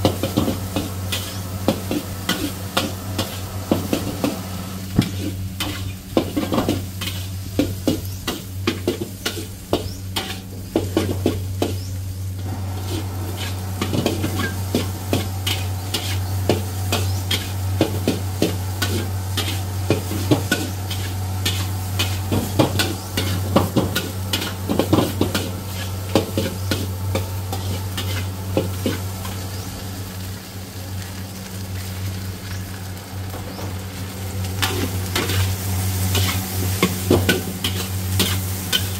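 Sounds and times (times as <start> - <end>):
rice sizzling in a wok: 0.0 - 38.9.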